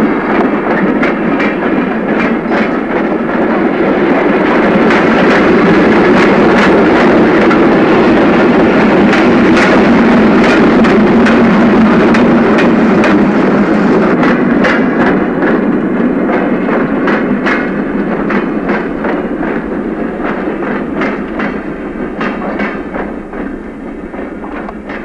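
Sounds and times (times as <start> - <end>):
steady rumbling: 0.0 - 25.0.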